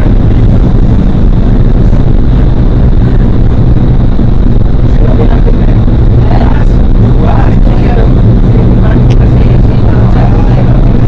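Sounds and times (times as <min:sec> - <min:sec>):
wind tunnel air rush and fan: 0:00.0 - 0:11.0.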